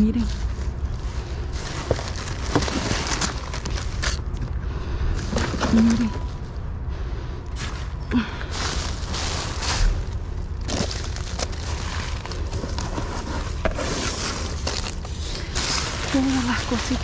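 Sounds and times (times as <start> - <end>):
plastic bags and cardboard rustling: 0.0 - 4.6, 5.2 - 6.5, 7.6 - 17.0.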